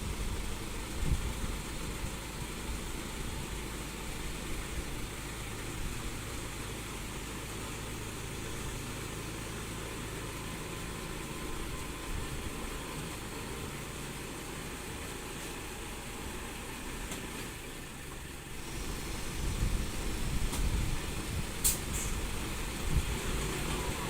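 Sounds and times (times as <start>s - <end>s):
heavy machinery engine idling: 0.0s - 24.0s.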